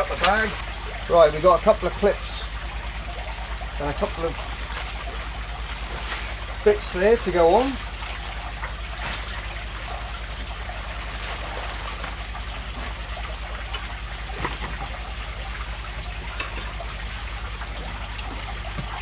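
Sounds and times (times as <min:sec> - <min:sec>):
low hum: 0:00.0 - 0:19.0
water trickling from aquarium filter: 0:00.0 - 0:19.0.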